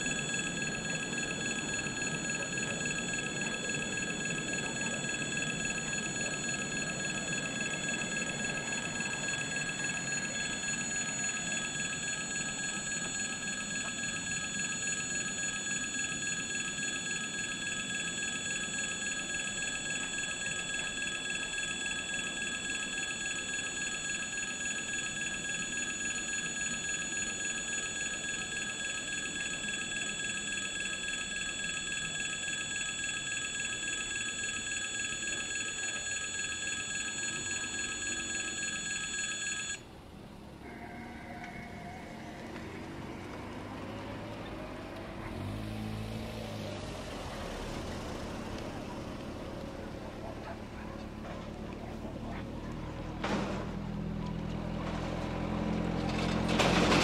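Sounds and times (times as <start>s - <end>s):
level crossing warning bell: 0.0s - 39.9s, 40.5s - 46.2s, 53.8s - 57.0s.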